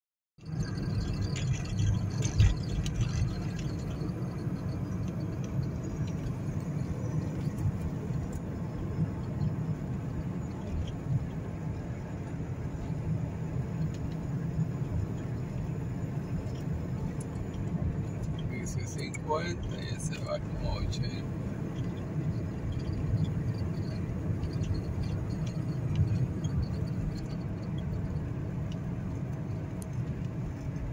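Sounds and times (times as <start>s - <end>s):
car interior road rumble: 0.4s - 30.9s.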